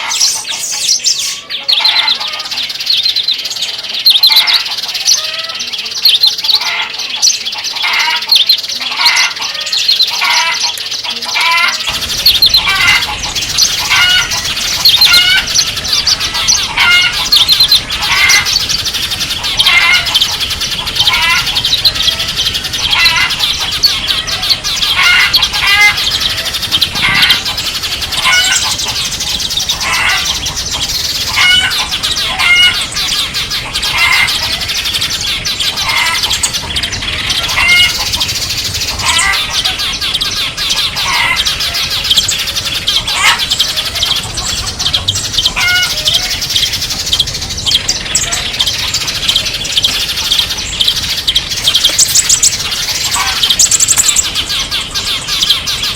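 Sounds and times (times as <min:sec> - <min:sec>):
bird chirps: 0:00.0 - 0:55.9
songbirds twittering: 0:00.0 - 0:55.9.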